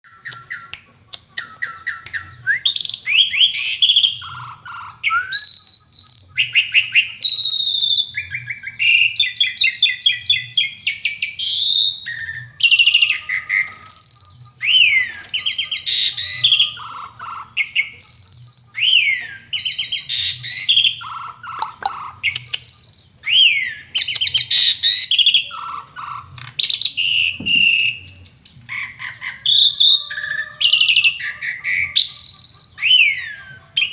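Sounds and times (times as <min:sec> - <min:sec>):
starling singing: 0:00.0 - 0:33.9.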